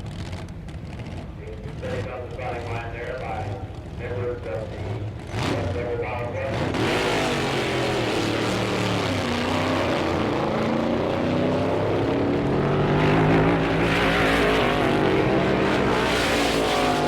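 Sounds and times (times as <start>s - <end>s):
drag racing car engine at full throttle: 0.0s - 17.0s.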